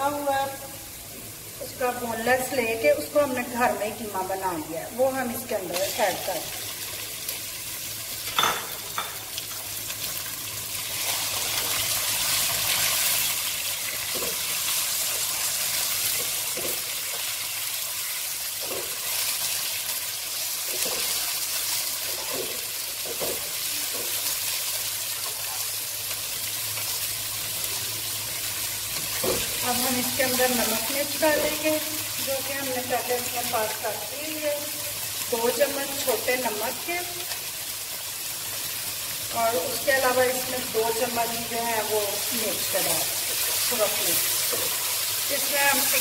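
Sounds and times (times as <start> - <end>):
chicken sizzling in oil: 4.8 - 46.0.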